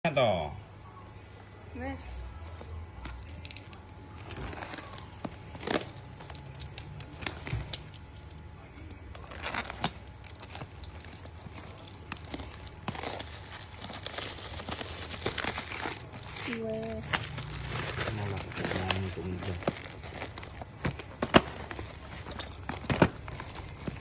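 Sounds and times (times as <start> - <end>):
packaging tearing and crinkling: 3.2 - 24.0.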